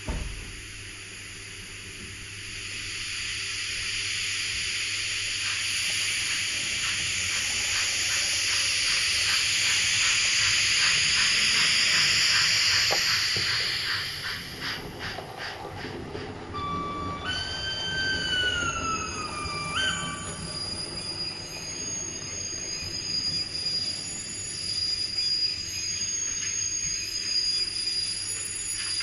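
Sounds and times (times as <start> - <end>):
steam hiss: 0.0 - 29.0
steam locomotive chuffing: 0.7 - 25.4.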